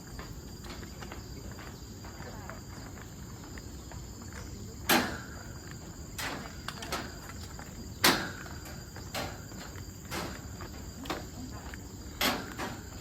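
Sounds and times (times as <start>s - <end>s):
footsteps on a trail: 0.0s - 13.0s
high buzz of insects: 0.0s - 13.0s.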